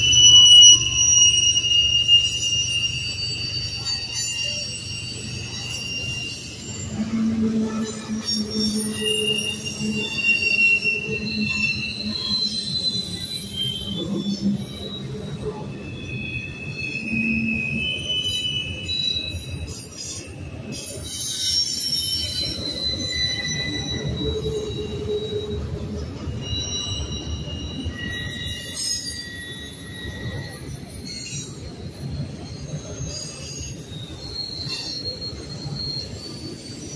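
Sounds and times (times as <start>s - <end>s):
freight train wheels rumbling: 0.0s - 36.9s
wheel squeals: 0.0s - 36.9s.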